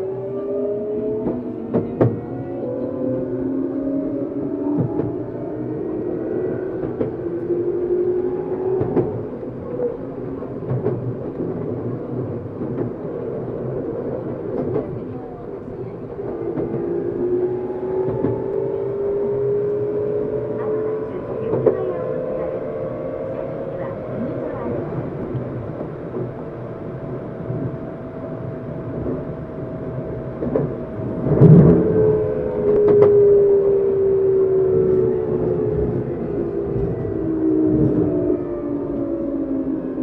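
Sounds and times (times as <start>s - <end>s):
electric train motor whine: 0.0s - 40.0s.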